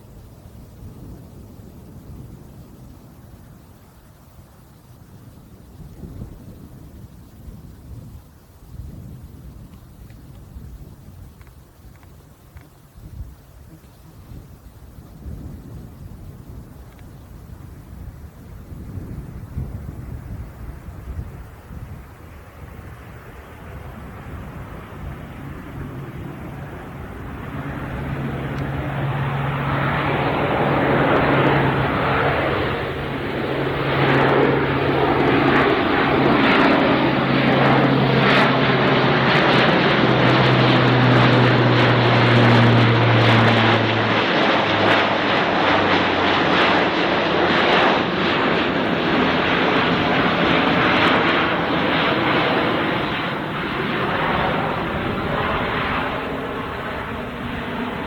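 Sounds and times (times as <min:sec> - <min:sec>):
turboprop aircraft passing: 0:00.0 - 0:58.0.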